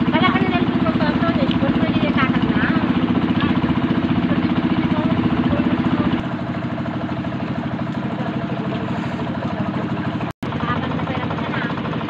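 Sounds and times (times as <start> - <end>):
motorboat engine puttering: 0.0 - 12.0.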